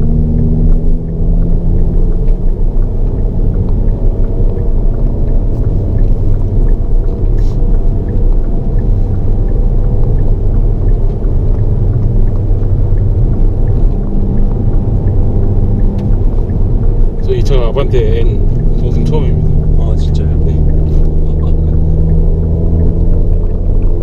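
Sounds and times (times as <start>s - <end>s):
car engine drone in cabin: 0.0s - 24.0s
road noise: 0.0s - 24.0s.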